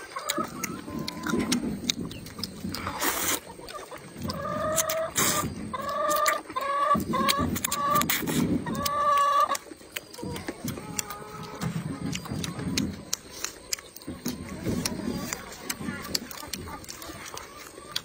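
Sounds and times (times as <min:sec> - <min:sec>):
chicken clucking: 0:00.0 - 0:18.0
noodles being slurped: 0:00.0 - 0:18.0.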